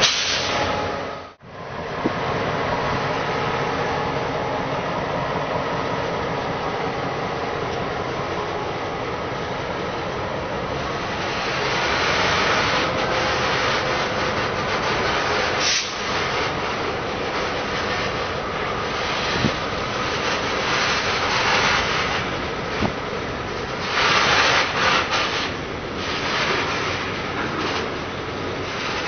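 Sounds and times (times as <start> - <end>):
freight car wheels rumbling: 0.0 - 29.0.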